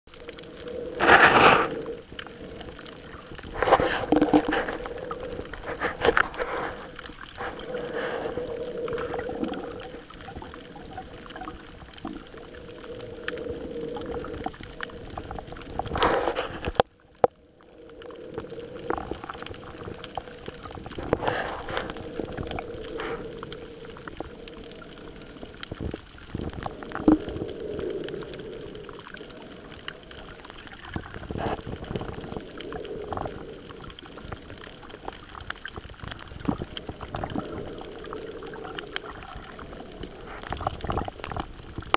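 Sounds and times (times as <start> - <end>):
water swishing and gurgling: 0.1 - 41.9.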